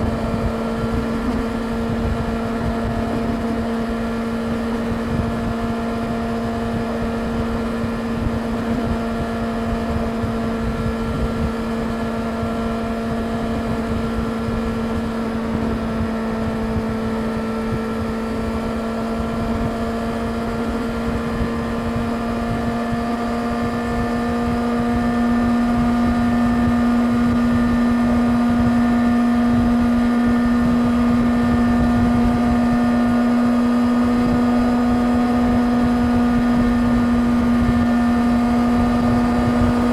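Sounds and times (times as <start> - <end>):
motorcycle engine running: 0.0 - 39.9
wind rumbling on microphone: 0.0 - 39.9.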